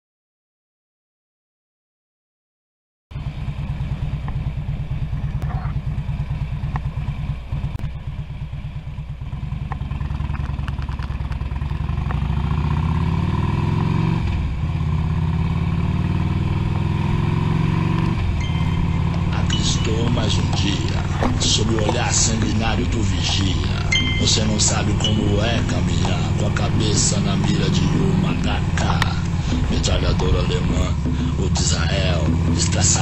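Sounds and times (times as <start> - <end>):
motorcycle engine idling and accelerating: 3.1 - 33.0.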